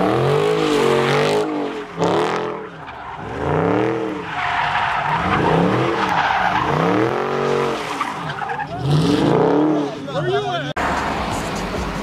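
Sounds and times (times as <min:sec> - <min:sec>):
car engine revving: 0:00.0 - 0:12.0
tyres screeching: 0:00.8 - 0:10.6.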